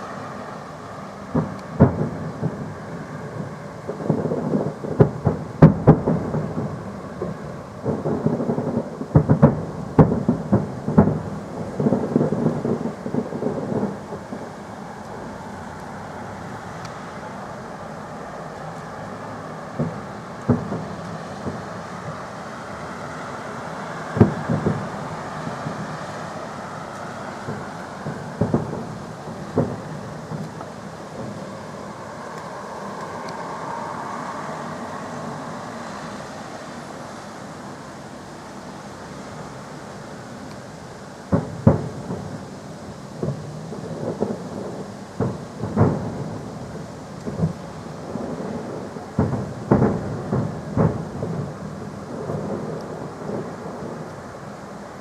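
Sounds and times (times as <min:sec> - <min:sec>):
fireworks booming: 0:00.0 - 0:55.0
steady background rumble: 0:00.0 - 0:55.0.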